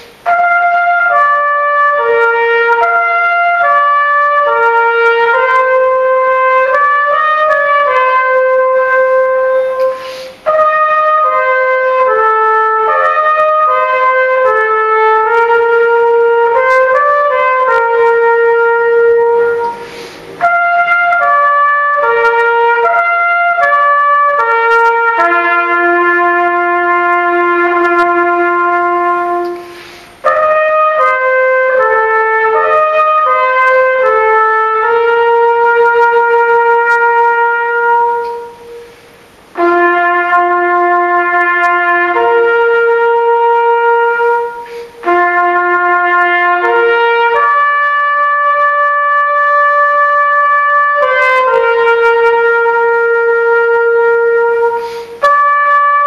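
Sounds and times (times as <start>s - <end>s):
solo trumpet melody: 0.0s - 56.0s.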